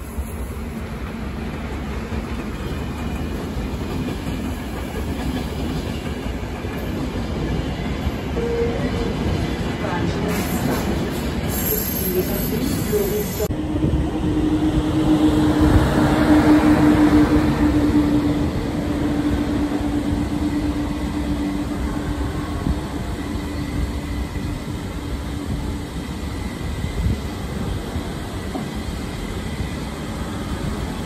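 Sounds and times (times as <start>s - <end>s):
train hum: 0.0s - 31.0s
train wheels rumbling on rails: 0.0s - 31.0s.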